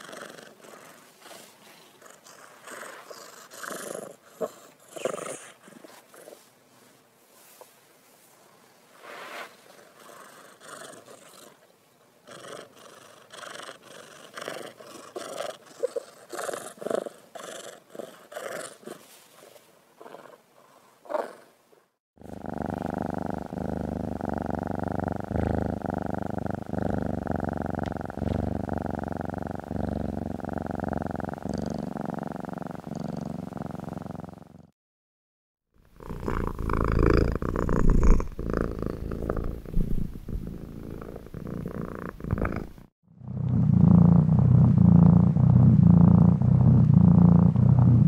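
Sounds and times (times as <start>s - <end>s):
cat purring: 0.0s - 6.5s, 9.6s - 21.5s, 22.2s - 34.8s, 35.8s - 48.0s.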